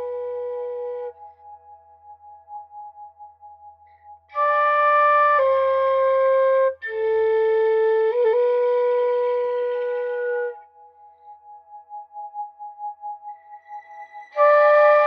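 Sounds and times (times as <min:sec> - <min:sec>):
flute playing slow notes: 0:00.0 - 0:15.0
soft ambient synth pad: 0:00.0 - 0:15.0.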